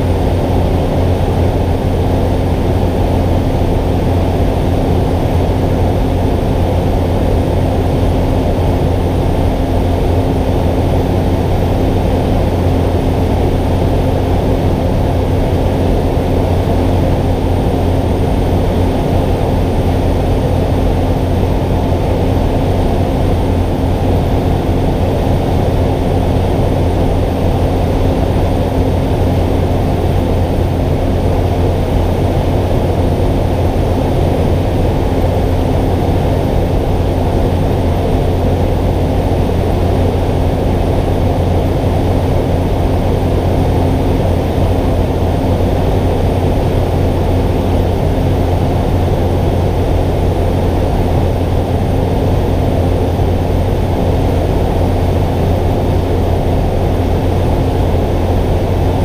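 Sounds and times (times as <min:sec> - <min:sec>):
turboprop engine droning in cockpit: 0:00.0 - 0:59.0.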